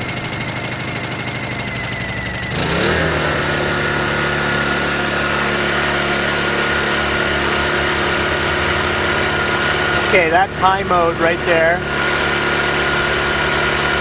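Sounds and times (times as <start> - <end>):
generator engine running: 0.0 - 14.0.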